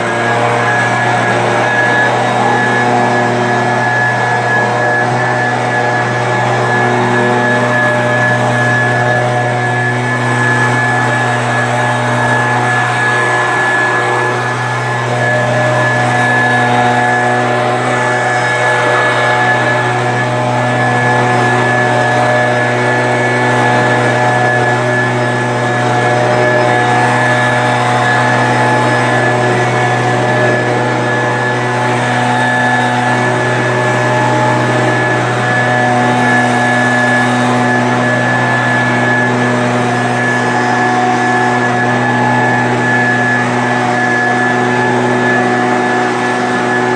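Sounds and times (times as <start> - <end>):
leaf blower running: 0.0 - 46.9.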